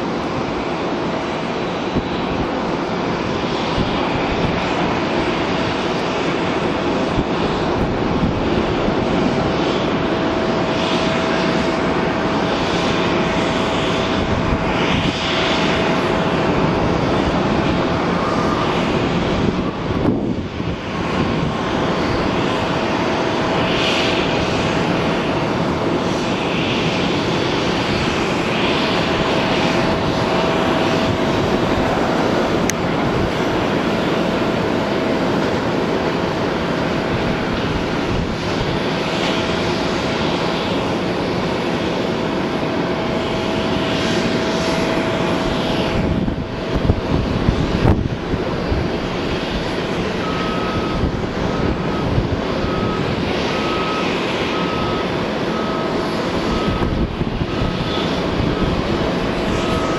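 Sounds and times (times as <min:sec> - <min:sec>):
jet engine roar with whine: 0:00.0 - 0:59.9.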